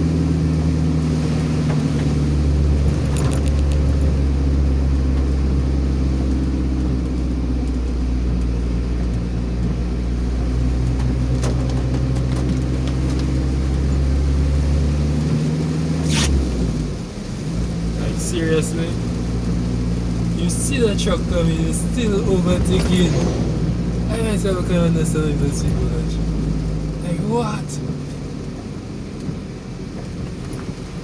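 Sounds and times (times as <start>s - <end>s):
car engine: 0.0s - 31.0s
road noise inside car: 0.0s - 31.0s.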